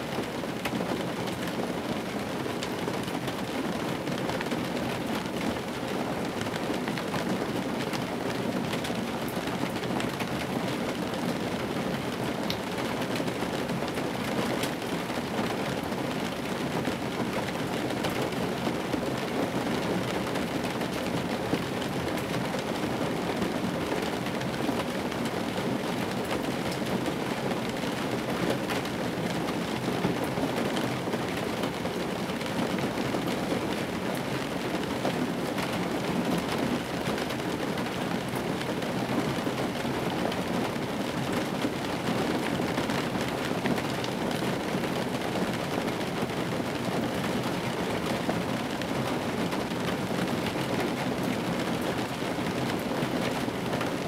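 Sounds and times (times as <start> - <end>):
rain pattering on a car: 0.0 - 54.0.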